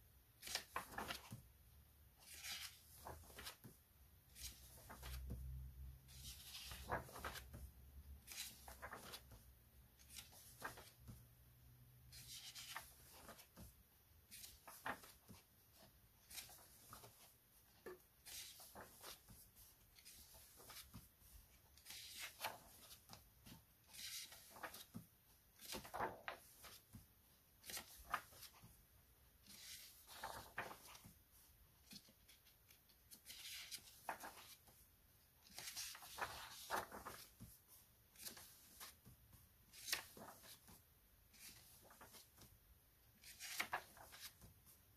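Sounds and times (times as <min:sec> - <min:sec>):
book pages turning: 0:00.3 - 0:01.5, 0:02.2 - 0:11.3, 0:12.1 - 0:34.8, 0:35.4 - 0:44.8.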